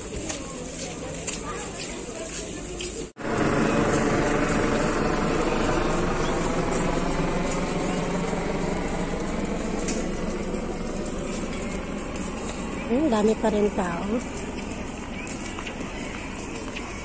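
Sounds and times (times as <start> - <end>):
mechanical engine drone: 3.2 - 17.0.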